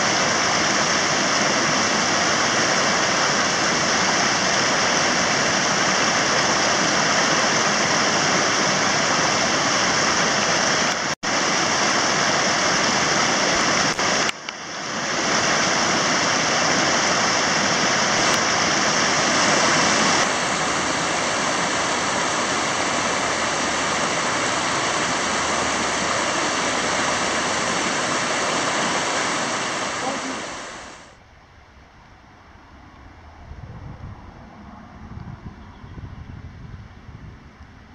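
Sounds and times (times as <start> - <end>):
stream rushing over rocks: 0.0 - 31.2.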